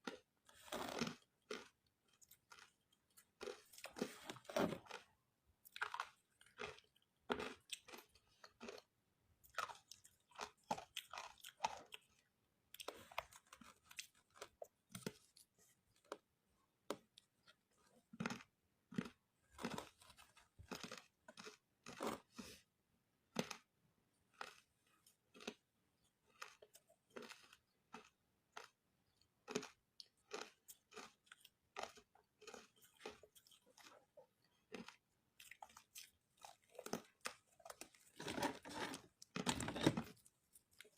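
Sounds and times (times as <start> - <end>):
person chewing crunchy ice: 0.0 - 40.9.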